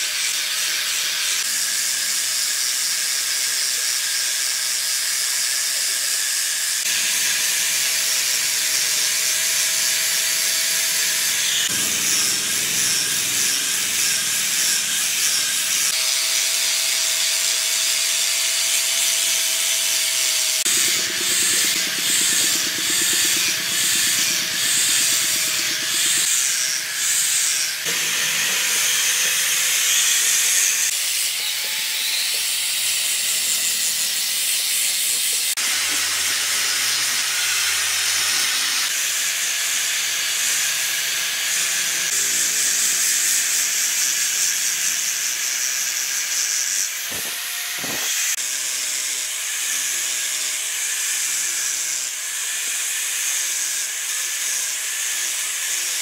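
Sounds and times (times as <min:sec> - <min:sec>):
angle grinder sanding wood: 0:00.0 - 0:56.0.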